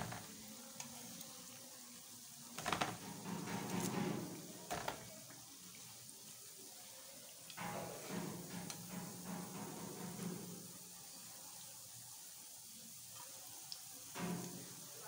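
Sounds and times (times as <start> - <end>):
faint oil sizzle: 0.0 - 15.0.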